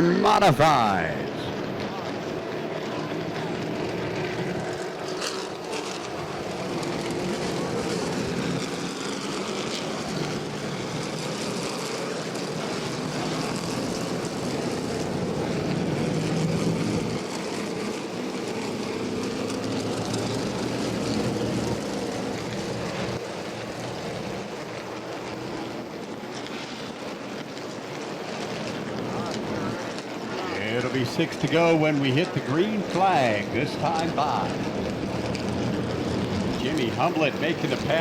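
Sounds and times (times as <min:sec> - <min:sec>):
race car engines droning: 0:00.0 - 0:38.0.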